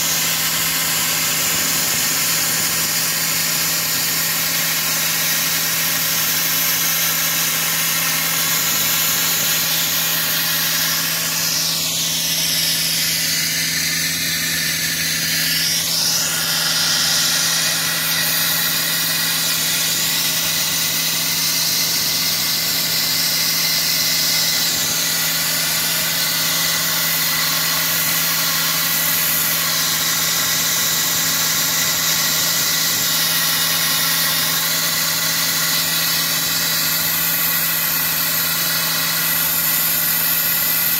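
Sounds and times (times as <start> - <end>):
engine running steadily: 0.0 - 40.9
sandblasting nozzle hissing: 0.0 - 40.9.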